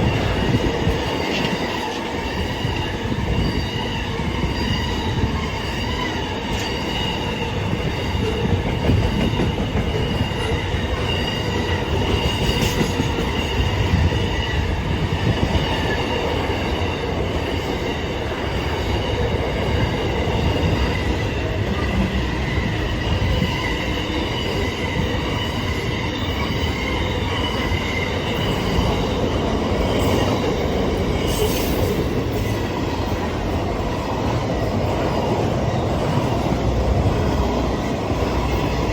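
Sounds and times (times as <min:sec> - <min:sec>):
train rumble: 0:00.0 - 0:38.9
train wheels squealing: 0:00.0 - 0:38.9.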